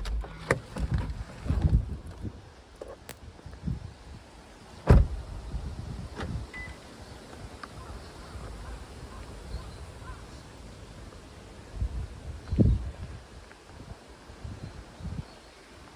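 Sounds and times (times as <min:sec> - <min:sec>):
wind rumbling on microphone: 0:00.0 - 0:15.9.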